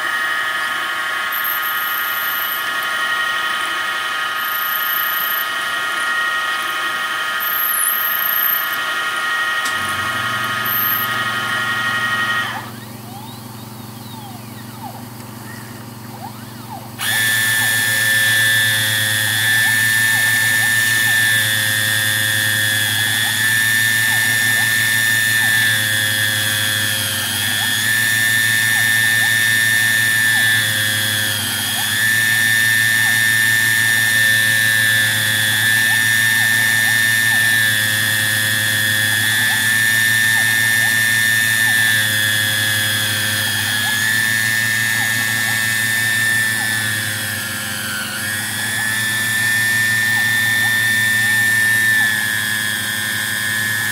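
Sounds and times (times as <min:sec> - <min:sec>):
milling spindle whine: 0:00.0 - 0:53.9.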